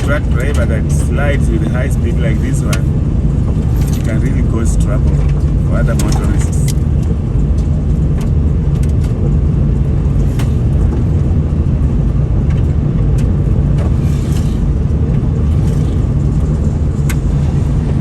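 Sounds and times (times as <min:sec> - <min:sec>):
car rumble on loose chippings: 0:00.0 - 0:18.0.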